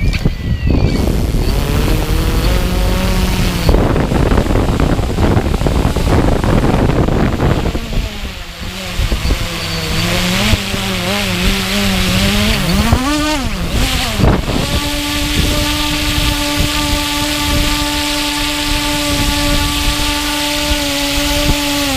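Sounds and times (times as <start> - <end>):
drone motors whining: 0.0 - 21.9
wind noise on microphone: 0.0 - 21.9.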